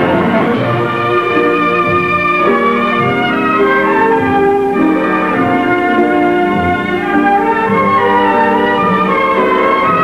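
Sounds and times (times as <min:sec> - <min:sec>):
orchestral strings: 0:00.0 - 0:10.0.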